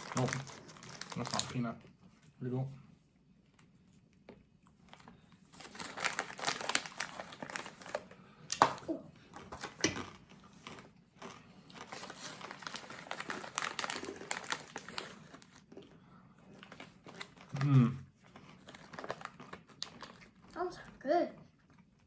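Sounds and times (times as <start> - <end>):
snack bag crinkling: 0.0 - 1.7, 4.7 - 20.9.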